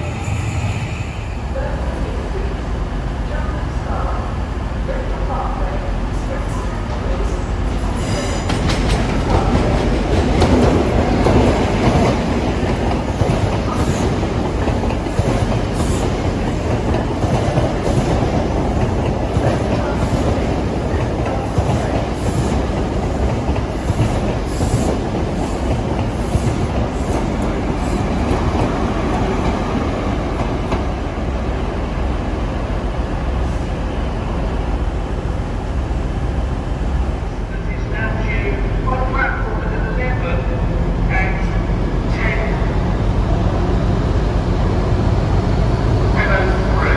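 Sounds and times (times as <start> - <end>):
train running on track: 0.0 - 46.9.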